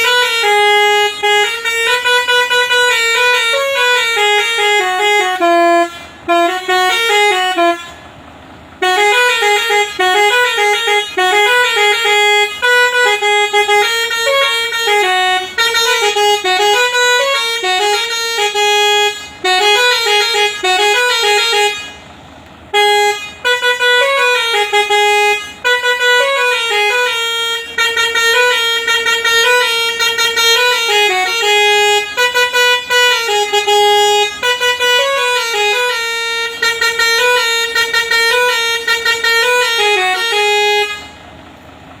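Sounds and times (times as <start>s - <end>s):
musical bus horn melody: 0.0s - 42.0s.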